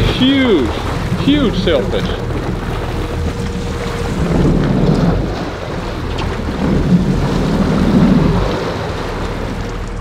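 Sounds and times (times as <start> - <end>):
boat engine running: 0.0 - 10.0
wind buffeting microphone: 0.0 - 10.0.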